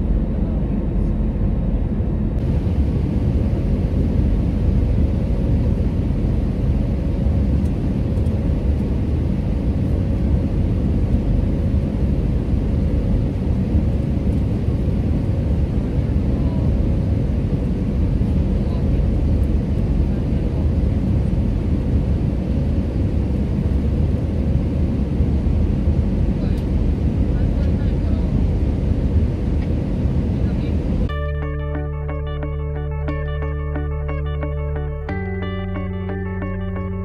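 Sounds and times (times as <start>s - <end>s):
jet engine and airflow rumble: 0.0s - 37.0s.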